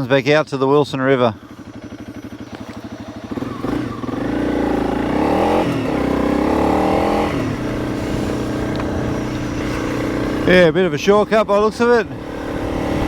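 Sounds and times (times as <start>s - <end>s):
motorcycle engine revving: 1.4s - 13.0s.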